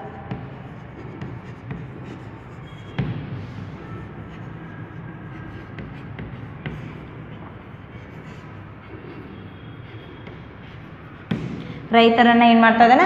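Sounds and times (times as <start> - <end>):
chalk tapping and scratching on blackboard: 0.0 - 12.2
faint chalk squeaks: 0.0 - 12.2.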